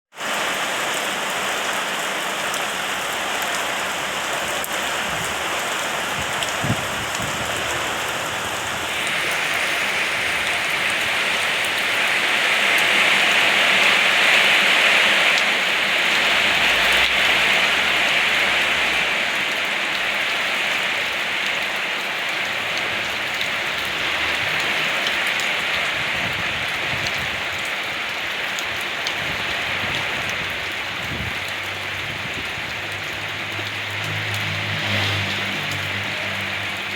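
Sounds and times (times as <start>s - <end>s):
rain pattering on surfaces: 0.1s - 36.9s.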